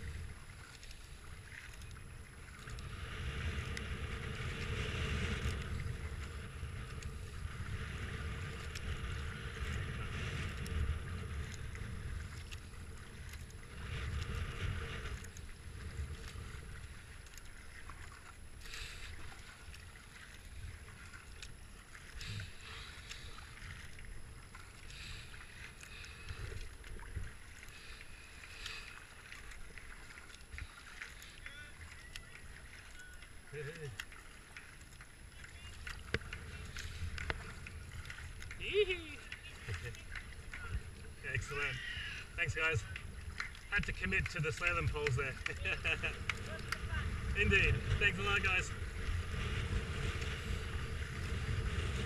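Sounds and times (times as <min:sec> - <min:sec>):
wind rumbling on microphone: 0:00.0 - 0:34.0, 0:34.7 - 0:52.0
paddle splashing in water: 0:00.0 - 0:52.0
water washing along hull: 0:00.0 - 0:52.0.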